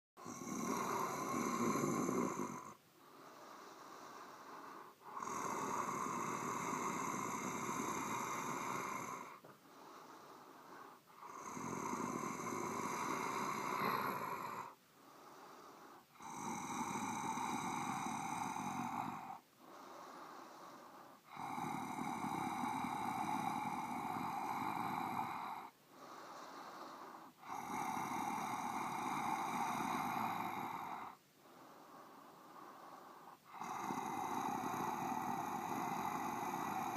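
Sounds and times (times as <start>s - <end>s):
raspy monster breathing: 0.2s - 36.9s.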